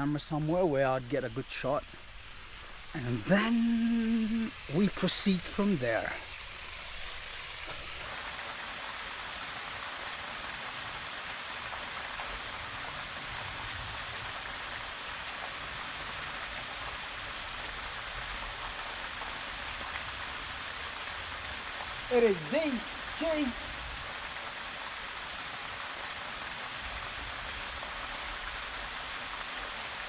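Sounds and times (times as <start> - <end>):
waterfall rushing into pool: 0.0 - 30.0.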